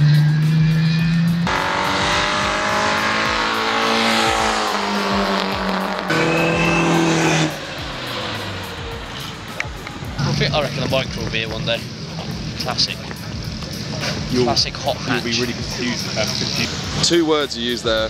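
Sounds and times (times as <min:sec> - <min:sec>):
background music: 0:00.0 - 0:18.0
racing car engine passing: 0:00.0 - 0:18.0.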